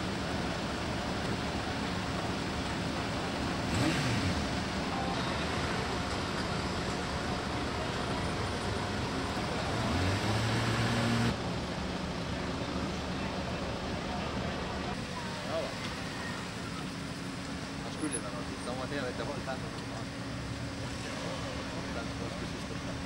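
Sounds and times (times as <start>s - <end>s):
car engines running at low speed: 0.0s - 23.0s.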